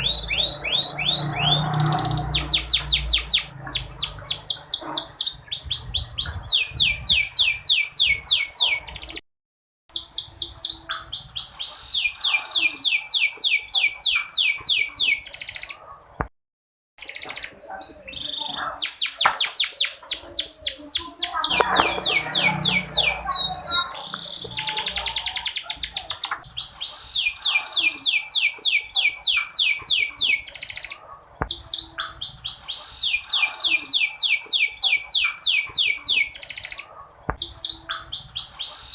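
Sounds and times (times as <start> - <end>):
canary singing trills: 0.0 - 9.2, 9.9 - 16.2, 17.0 - 38.9.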